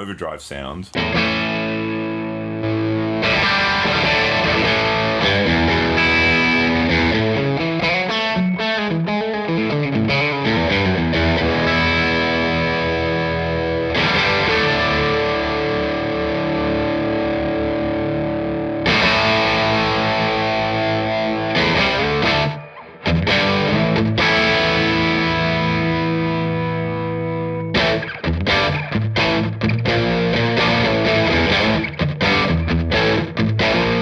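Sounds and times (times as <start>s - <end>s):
overdriven electric guitar chords: 1.0s - 34.0s.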